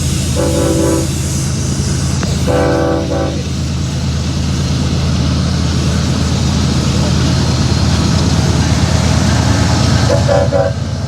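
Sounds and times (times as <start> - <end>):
hiss of wheels and air: 0.0 - 11.0
train engine rumble: 0.0 - 11.0.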